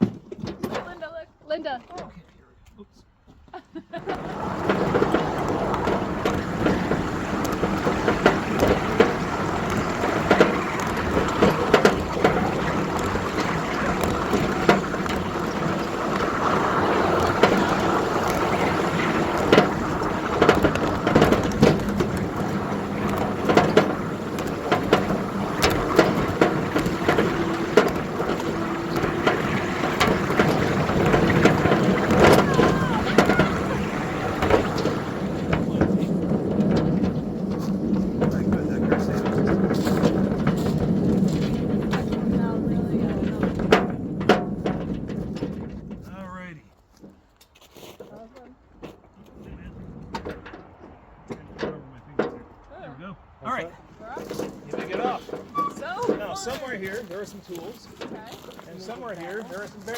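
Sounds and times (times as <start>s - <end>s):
miniature train running: 3.9s - 46.6s, 53.5s - 59.9s
sharp clicks and knocks: 4.0s - 46.2s, 47.0s - 52.7s.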